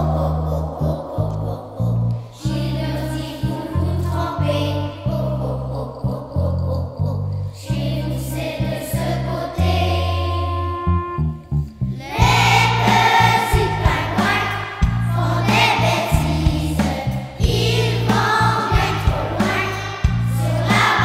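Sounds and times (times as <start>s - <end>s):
children's choir singing: 0.0s - 10.9s, 12.0s - 21.0s
instrumental accompaniment with bass: 0.0s - 21.0s.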